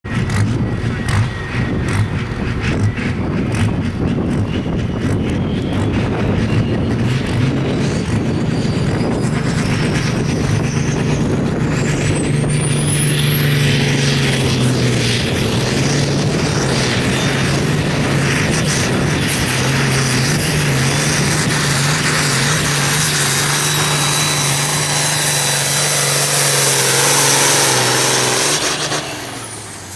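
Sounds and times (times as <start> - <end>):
tractor engine pulsing under throttle: 0.0 - 29.9.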